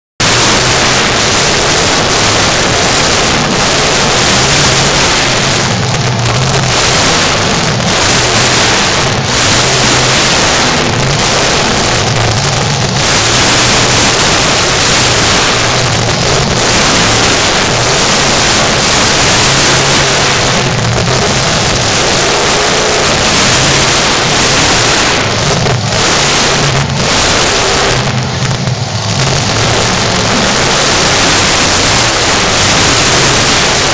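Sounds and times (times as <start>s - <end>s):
monster truck engine revving: 0.0s - 33.9s.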